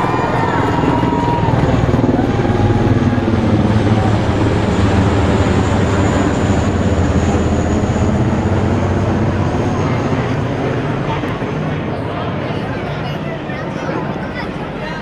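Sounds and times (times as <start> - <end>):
aircraft and helicopters rumbling: 0.0 - 15.0.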